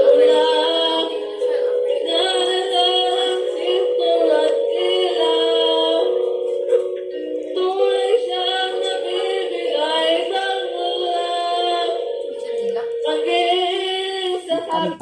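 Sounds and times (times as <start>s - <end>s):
woman singing: 0.0s - 6.2s, 7.2s - 15.0s.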